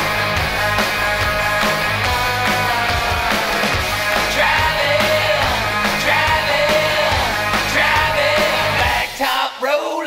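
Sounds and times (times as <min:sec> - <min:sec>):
rock music: 0:00.0 - 0:09.2
steady drum beat: 0:00.0 - 0:09.2
person singing: 0:01.0 - 0:10.0.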